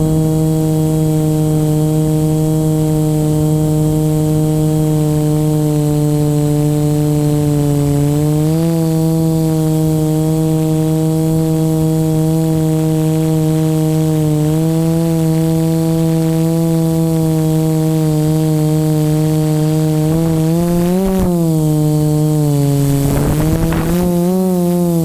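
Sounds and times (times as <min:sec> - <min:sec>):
model aircraft motor humming: 0:00.0 - 0:25.0.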